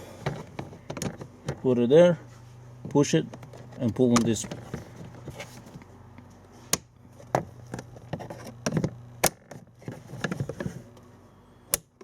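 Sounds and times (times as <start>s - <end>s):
rustling and handling: 0.0s - 11.2s.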